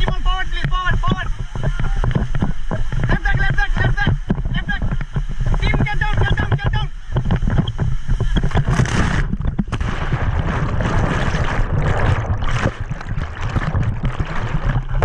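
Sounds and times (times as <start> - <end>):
water slapping: 0.0 - 15.0
whitewater rushing and splashing: 0.0 - 15.0.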